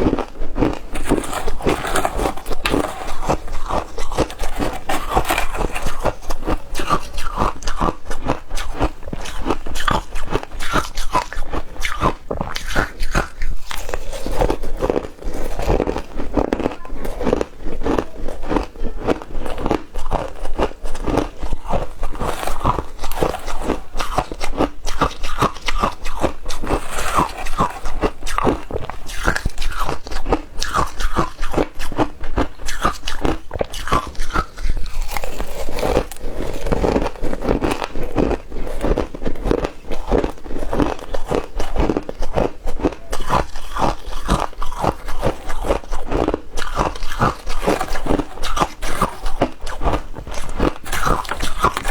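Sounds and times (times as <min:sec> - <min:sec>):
ice crunching in mouth: 0:00.0 - 0:51.9.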